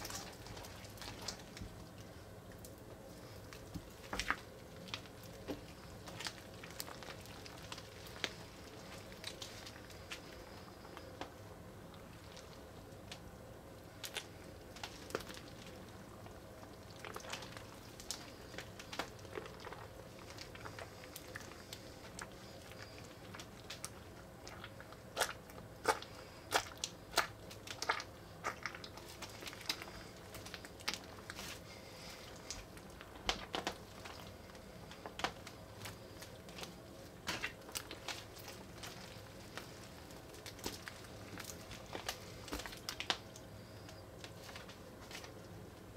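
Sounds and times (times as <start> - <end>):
wet slime crackling and clicking: 0.0 - 45.4.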